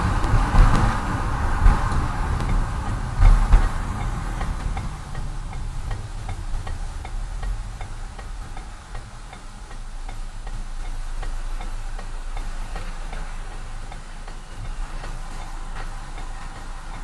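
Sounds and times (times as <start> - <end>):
car rolling rumble: 0.0 - 17.0
turn signal clicking: 0.0 - 17.0.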